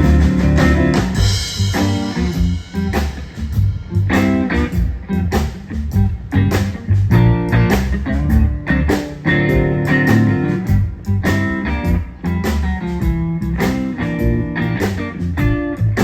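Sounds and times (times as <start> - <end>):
drum hits: 0.0 - 15.7
blues-rock band playing: 0.0 - 16.0.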